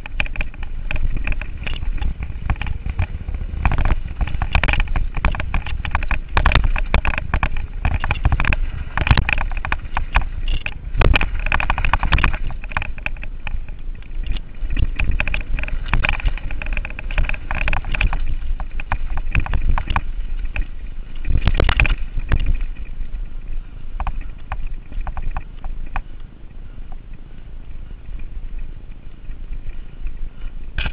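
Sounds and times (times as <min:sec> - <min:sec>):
low rumble: 0:00.0 - 0:30.9
mountain bike rattling over bumps: 0:00.0 - 0:30.9.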